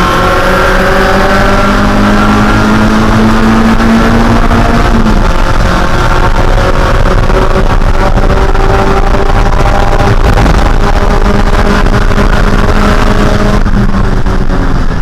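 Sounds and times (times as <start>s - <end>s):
racing car engine revving: 0.0s - 15.0s.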